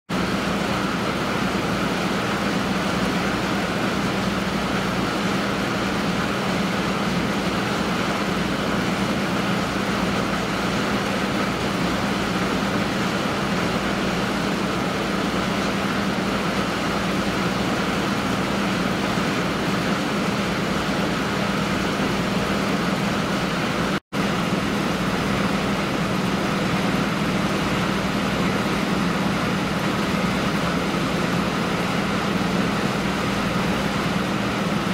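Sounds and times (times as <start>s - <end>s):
steady hum: 0.1s - 34.9s
low mechanical drone: 0.2s - 34.9s.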